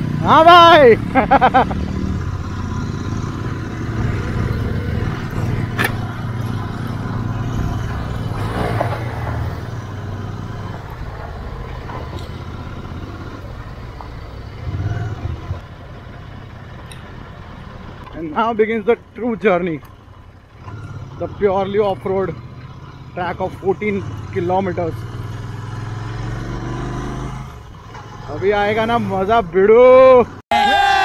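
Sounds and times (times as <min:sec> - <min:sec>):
motorcycle engine running: 0:00.0 - 0:29.3.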